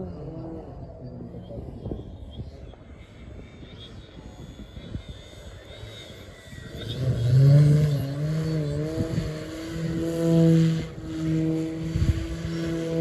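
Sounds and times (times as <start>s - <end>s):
model plane motor droning: 0.0s - 13.0s.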